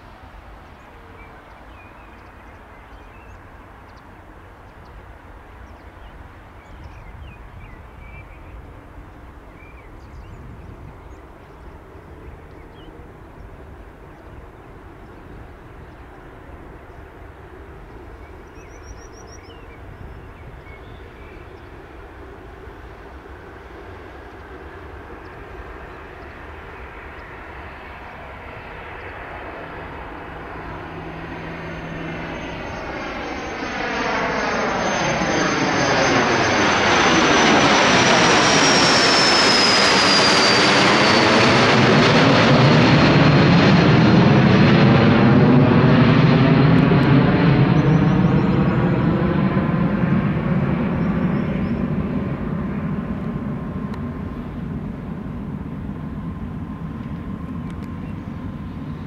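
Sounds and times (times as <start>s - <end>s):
jet engine whine passing: 0.0s - 59.0s.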